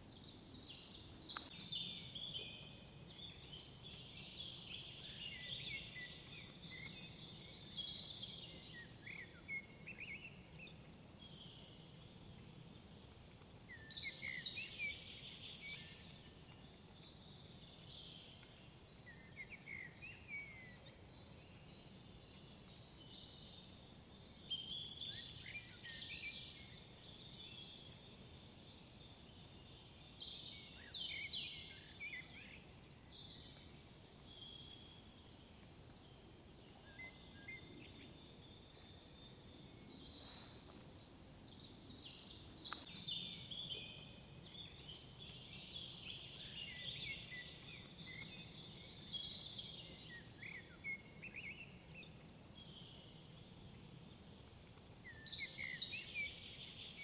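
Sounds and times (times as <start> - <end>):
faint forest hum: 0.0 - 57.0
songbirds singing: 0.0 - 57.0.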